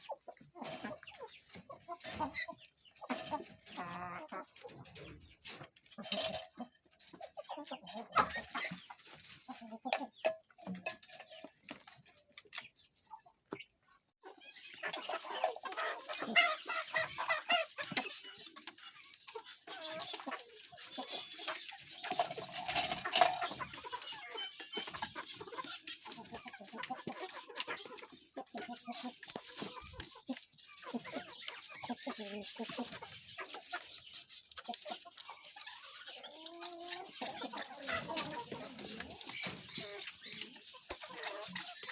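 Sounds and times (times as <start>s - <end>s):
pheasants clucking and calling: 0.0s - 41.9s.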